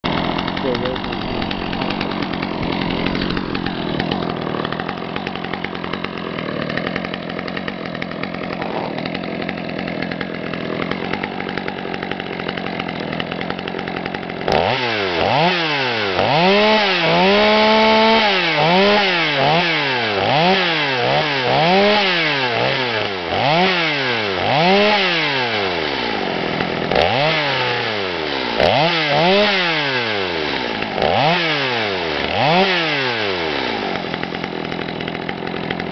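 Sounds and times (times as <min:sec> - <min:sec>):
small two-stroke engine revving: 0:00.0 - 0:35.9.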